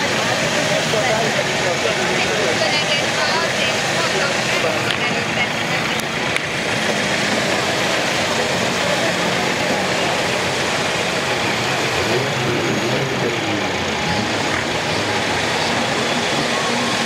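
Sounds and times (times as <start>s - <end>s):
buggy engine running: 0.0s - 17.0s.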